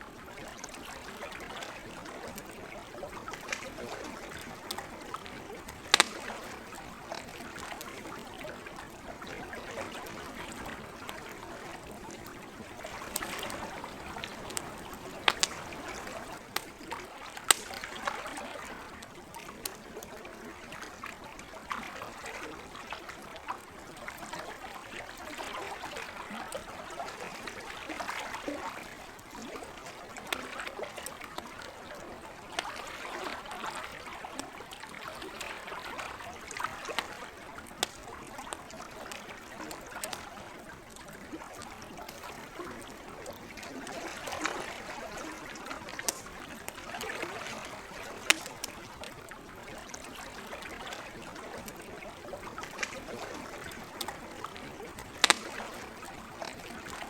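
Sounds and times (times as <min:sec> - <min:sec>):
lake water lapping: 0:00.0 - 0:57.0
campfire crackling: 0:00.1 - 0:57.0.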